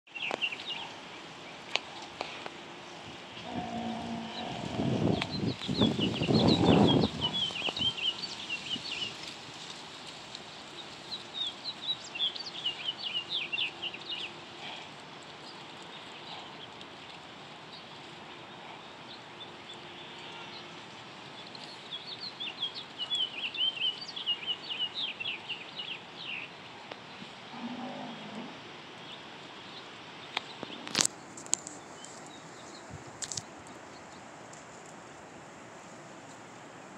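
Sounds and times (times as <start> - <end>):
outdoor background noise: 0.0 - 36.9
songbird chirping: 0.1 - 2.6, 3.4 - 34.9.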